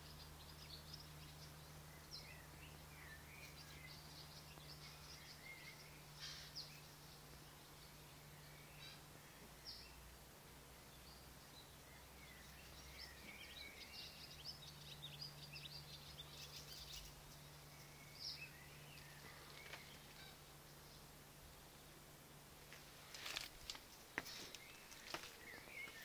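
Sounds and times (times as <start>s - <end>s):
bird chirping: 0.0s - 22.0s, 23.4s - 26.0s
low steady hum: 0.0s - 26.0s.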